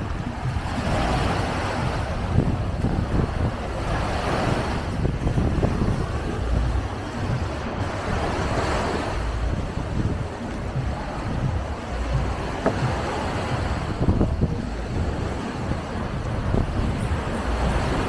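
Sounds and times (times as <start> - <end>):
surf washing up shore: 0.0 - 18.0
wind buffeting microphone: 0.0 - 18.0.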